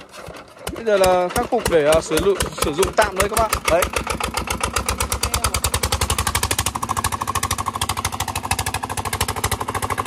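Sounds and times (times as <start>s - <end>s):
diesel engine chugging: 0.0s - 10.0s.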